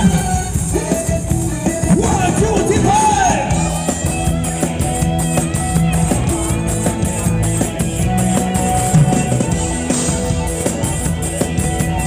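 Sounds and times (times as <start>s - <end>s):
live band dance music: 0.0s - 12.0s.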